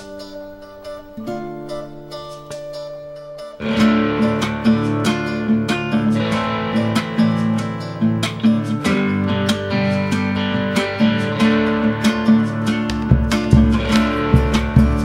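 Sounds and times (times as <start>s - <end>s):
strummed acoustic guitar music: 0.0s - 15.0s.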